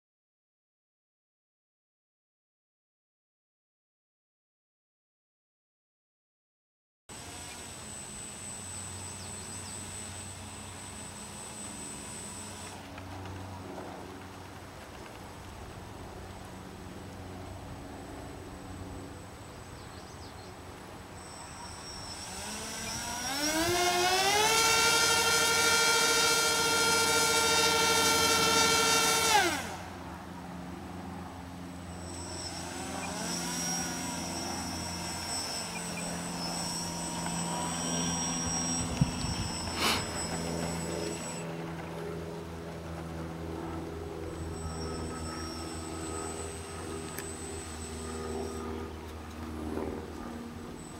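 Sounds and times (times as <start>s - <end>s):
electric motors whining: 7.1s - 50.9s.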